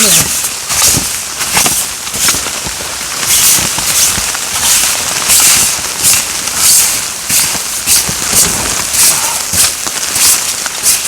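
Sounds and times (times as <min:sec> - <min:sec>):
footsteps crunching through snow: 0:00.0 - 0:11.0.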